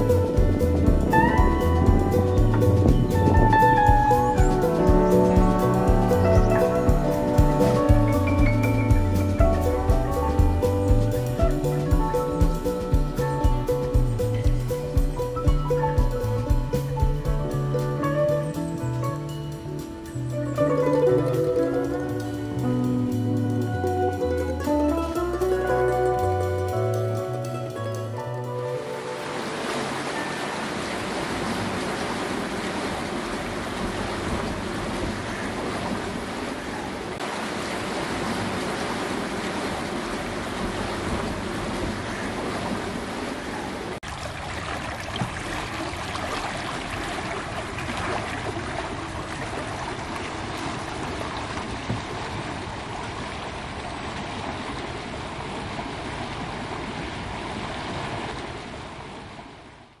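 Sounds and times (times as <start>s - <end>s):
outdoor noise: 0.0s - 60.0s
water lapping and churning: 0.0s - 60.0s.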